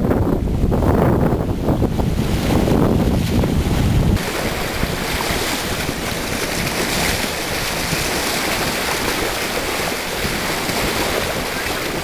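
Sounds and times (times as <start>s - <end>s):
rush of wind and water: 0.0s - 12.0s
wind buffeting microphone: 0.0s - 12.0s.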